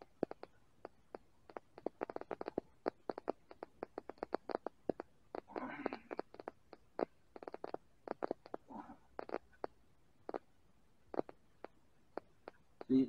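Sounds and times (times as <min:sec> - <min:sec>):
small clicks and taps: 0:00.0 - 0:10.5, 0:11.1 - 0:13.0.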